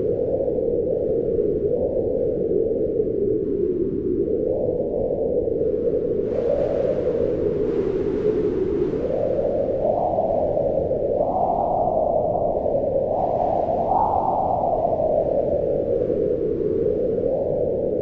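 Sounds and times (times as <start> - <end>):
howling wind: 0.0 - 18.0.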